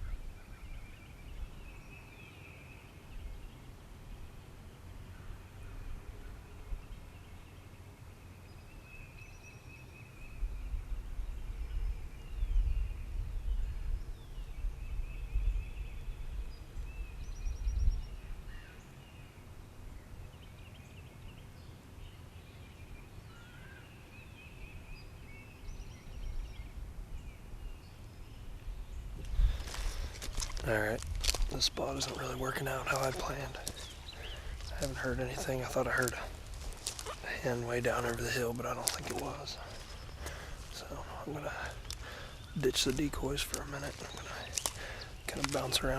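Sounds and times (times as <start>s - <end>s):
songbirds calling and trilling: 0.0s - 45.9s.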